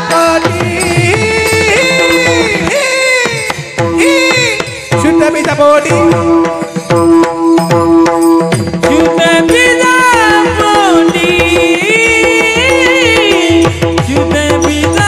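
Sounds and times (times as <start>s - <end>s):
drum strokes: 0.0s - 15.0s
person singing: 0.0s - 15.0s.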